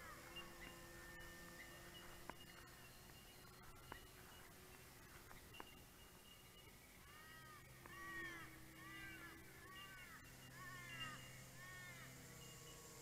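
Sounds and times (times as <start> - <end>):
bird calling: 0.0 - 13.0
faint steady low hum: 0.0 - 13.0.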